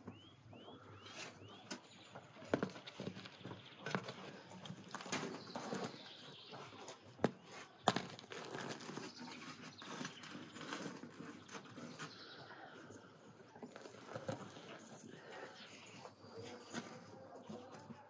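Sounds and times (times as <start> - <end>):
bread scraping against clay: 2.4 - 18.0.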